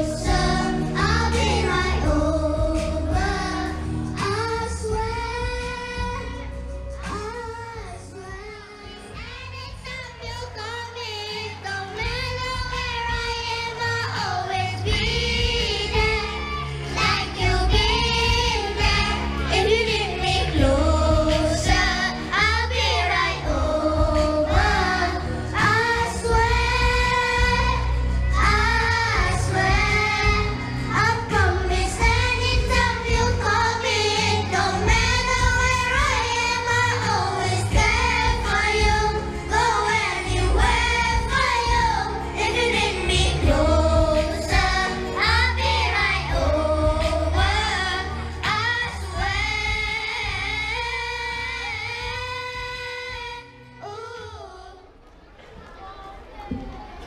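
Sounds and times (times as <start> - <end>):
backing track with bass line: 0.0 - 53.3
children singing in unison: 0.0 - 56.8.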